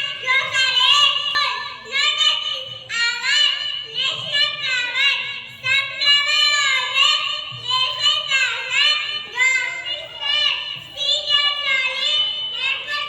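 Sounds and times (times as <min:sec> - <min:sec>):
child singing: 0:00.0 - 0:13.0.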